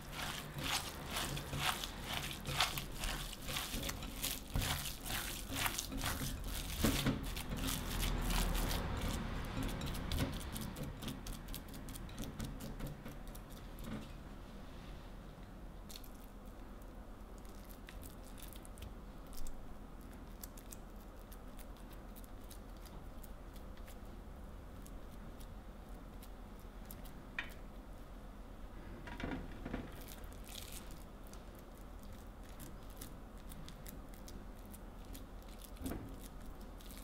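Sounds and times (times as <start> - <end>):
hands kneading wet meat: 0.0 - 14.0, 15.8 - 27.9, 29.9 - 37.0.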